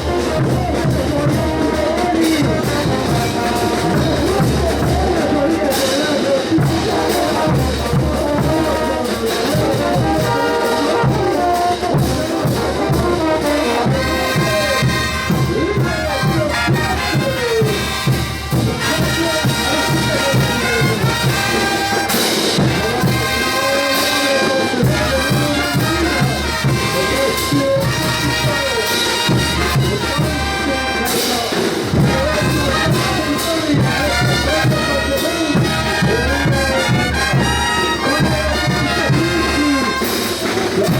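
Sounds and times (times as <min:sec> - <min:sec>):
brass band playing dance music: 0:00.0 - 0:40.9
steady drum beat: 0:00.0 - 0:40.9.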